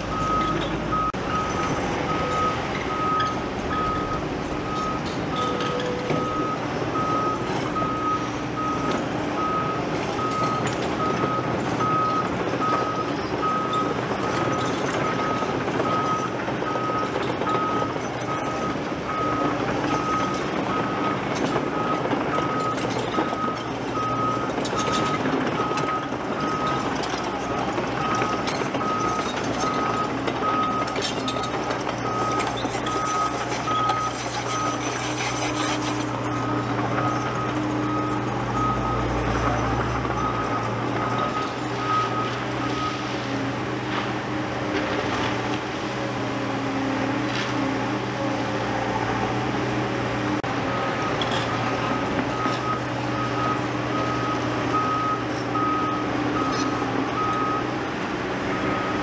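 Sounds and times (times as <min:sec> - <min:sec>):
reversing alarm beeping: 0:00.0 - 0:43.1, 0:50.7 - 0:57.8, 0:58.5 - 0:59.0
diesel engine running: 0:00.0 - 0:59.0.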